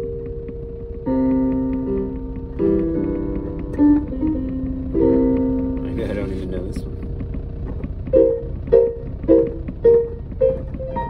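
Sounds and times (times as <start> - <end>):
digital piano chords: 0.0 - 11.0.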